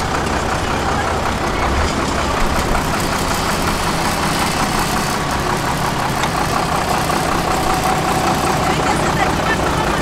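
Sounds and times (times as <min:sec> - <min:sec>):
truck engine running at low revs: 0:00.0 - 0:10.0.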